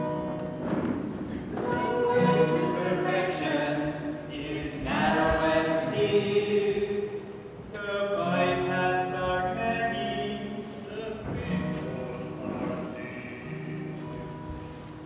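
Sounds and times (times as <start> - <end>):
acoustic guitar: 0.0 - 15.0
group of voices singing: 1.6 - 13.9.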